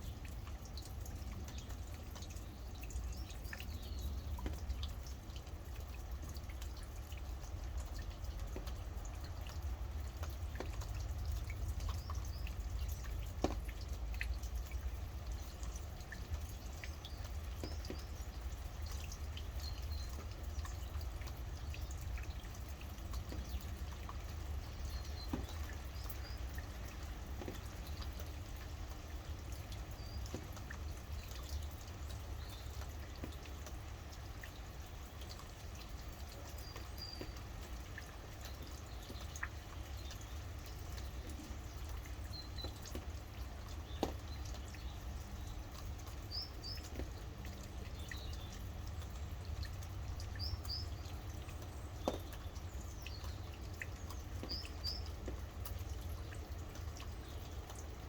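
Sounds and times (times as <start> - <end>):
rain dripping: 0.0 - 58.0.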